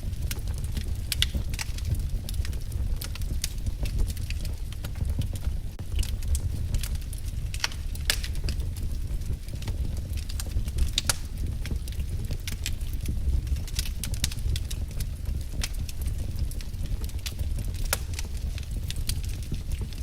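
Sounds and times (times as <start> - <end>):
low rumble of burning logs: 0.0 - 20.0
wood fire crackling: 0.0 - 20.0.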